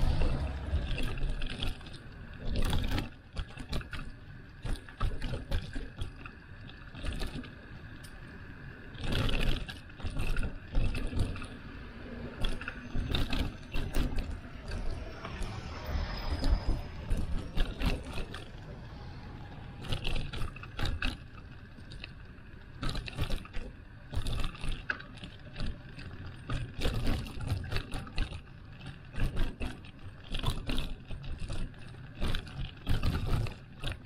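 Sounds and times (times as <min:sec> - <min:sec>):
bike rolling with clicks and knocks: 0:00.0 - 0:34.0
wind rumbling on microphone: 0:00.0 - 0:34.0.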